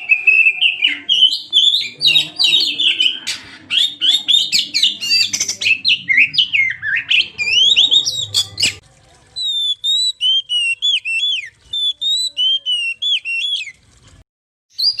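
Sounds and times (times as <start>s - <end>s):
bird singing whistled notes: 0.0s - 8.8s, 9.4s - 13.8s, 14.7s - 15.0s.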